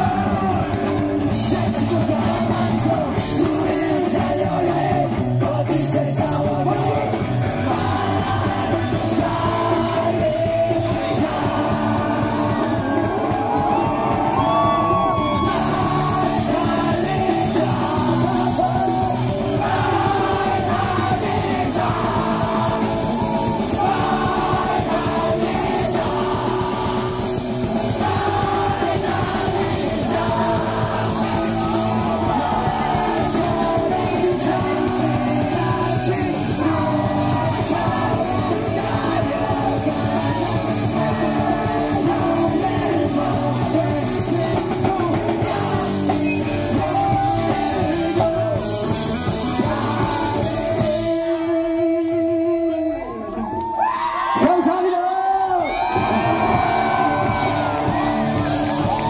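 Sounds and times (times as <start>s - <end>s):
drum kit: 0.0s - 52.7s, 55.6s - 59.0s
electric guitars: 0.0s - 59.0s
sung and shouted vocals: 0.0s - 59.0s.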